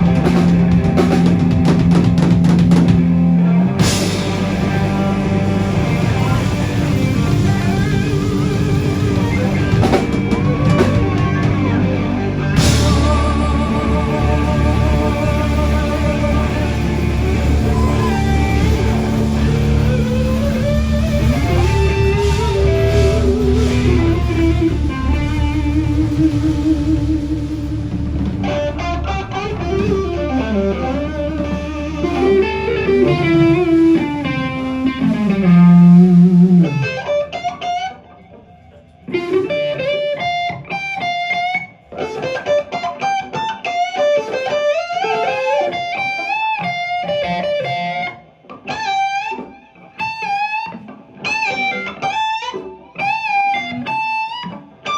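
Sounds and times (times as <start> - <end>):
blues-rock band playing: 0.0 - 54.9
lead electric guitar: 0.0 - 54.9.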